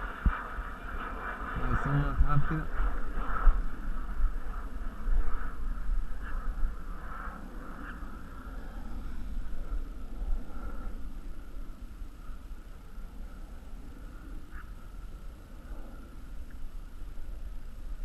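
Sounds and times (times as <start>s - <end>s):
faint wavering hum: 0.0s - 18.0s
wind buffeting microphone: 0.0s - 18.0s.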